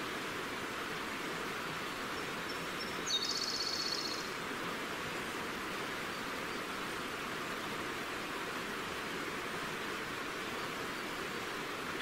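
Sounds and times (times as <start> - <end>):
forest river rushing: 0.0 - 12.0.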